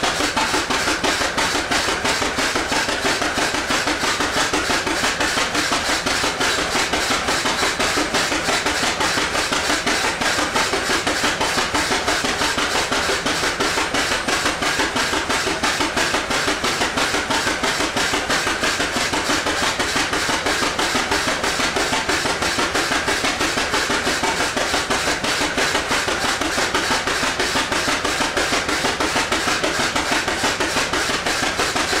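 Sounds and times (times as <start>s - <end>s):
tractor engine exhaust firing: 0.0s - 32.0s.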